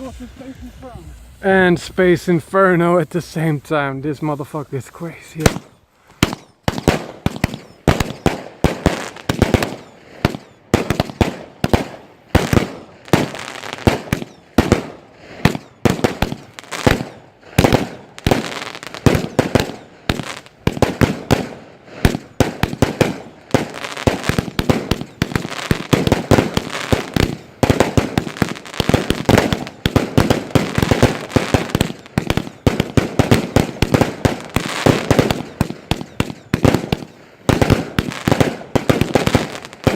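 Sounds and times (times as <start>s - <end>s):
fireworks barrage bangs: 5.4s - 39.9s.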